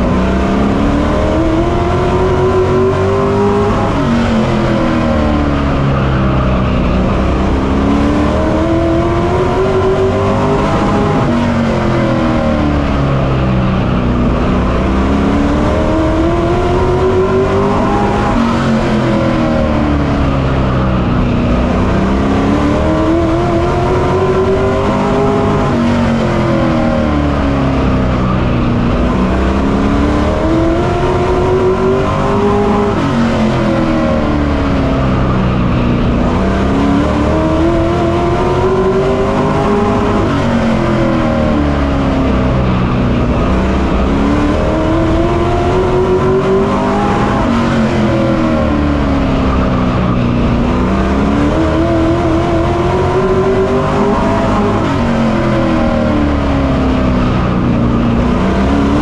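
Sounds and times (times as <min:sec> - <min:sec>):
race truck engine revving: 0:00.0 - 0:59.0.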